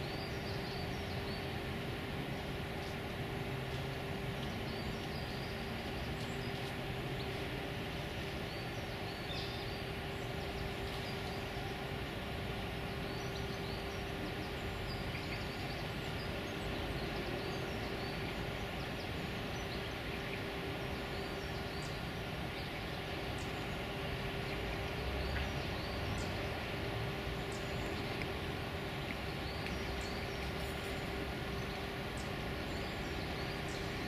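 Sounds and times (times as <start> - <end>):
constant low hum: 0.0 - 34.0
distant traffic rumble: 0.0 - 34.0.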